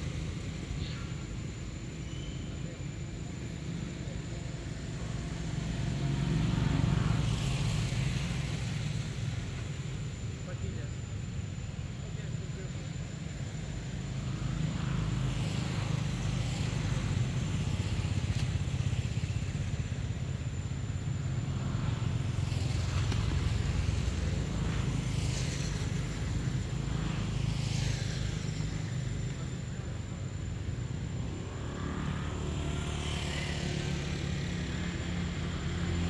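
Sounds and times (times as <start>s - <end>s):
motor running with low rumble: 0.0s - 36.0s.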